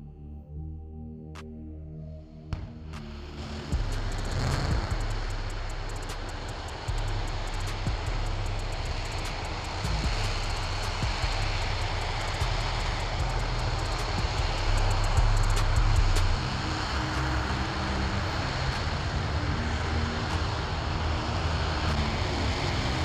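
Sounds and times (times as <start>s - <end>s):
rocket engine roaring: 3.0s - 23.0s.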